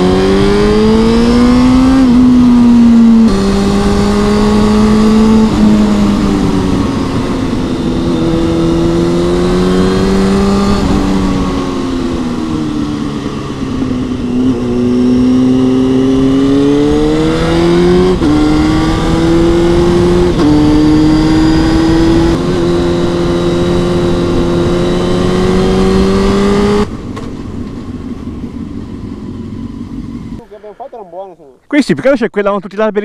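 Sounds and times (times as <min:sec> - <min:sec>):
motorcycle engine accelerating: 0:00.0 - 0:30.9.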